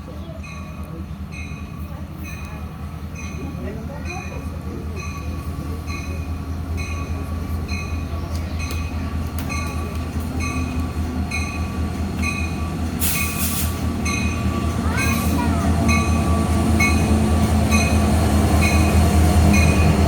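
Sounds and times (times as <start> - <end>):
diesel locomotive rumbling: 0.0 - 20.0
train bell ringing: 0.0 - 20.0.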